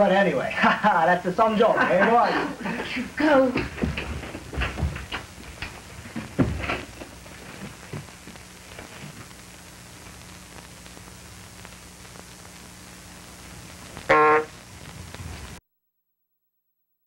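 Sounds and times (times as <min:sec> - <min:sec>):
film soundtrack hiss and hum: 0:00.0 - 0:15.6.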